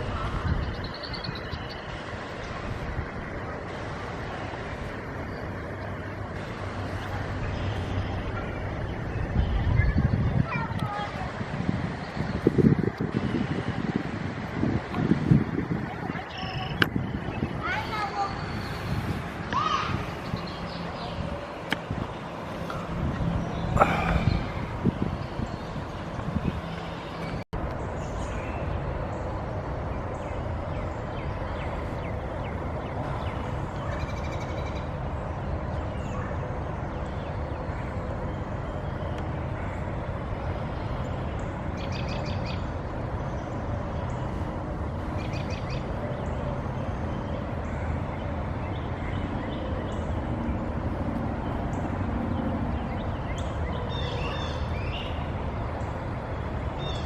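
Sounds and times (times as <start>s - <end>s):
birds chirping and trilling: 0.0s - 13.7s, 15.2s - 57.0s
steady rumbling background: 0.0s - 57.0s.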